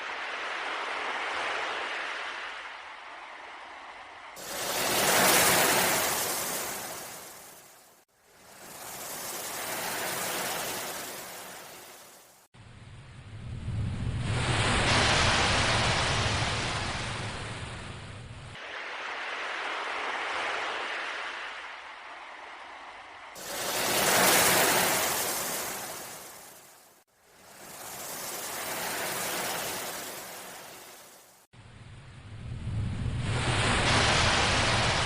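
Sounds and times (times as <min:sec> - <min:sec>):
ocean waves washing in: 0:00.0 - 0:35.0.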